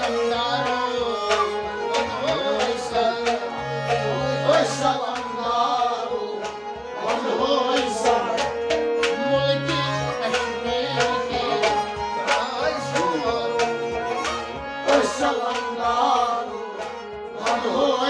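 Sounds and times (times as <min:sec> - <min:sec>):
harmonium drones: 0:00.0 - 0:18.0
man singing: 0:00.0 - 0:18.0
stringed instruments: 0:00.0 - 0:18.0.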